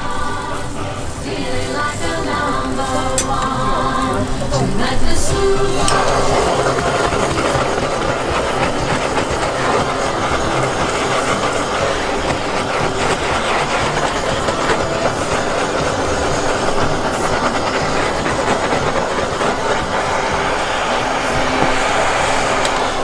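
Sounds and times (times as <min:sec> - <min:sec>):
butane torch hissing: 0:00.0 - 0:23.0.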